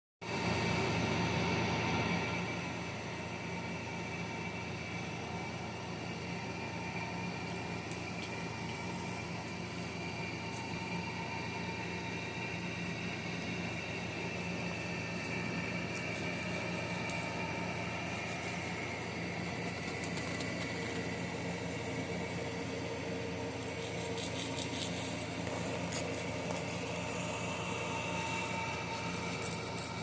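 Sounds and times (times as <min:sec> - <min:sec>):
small electric motor humming: 0:00.3 - 0:30.0.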